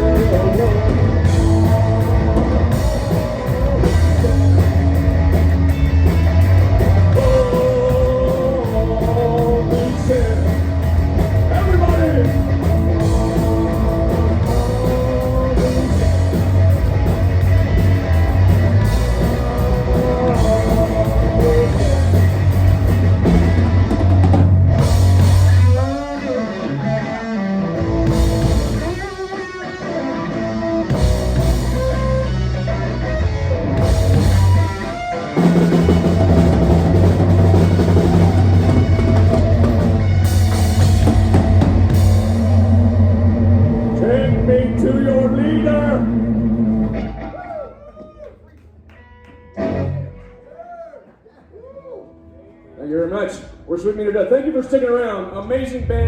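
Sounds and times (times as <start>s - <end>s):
live rock band playing: 0.0s - 47.8s, 48.8s - 50.5s.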